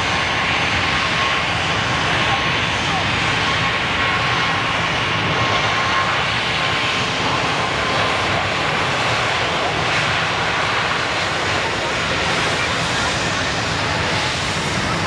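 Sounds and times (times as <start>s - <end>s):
faint jet whine: 0.0s - 15.0s
jet engine roar: 0.0s - 15.0s.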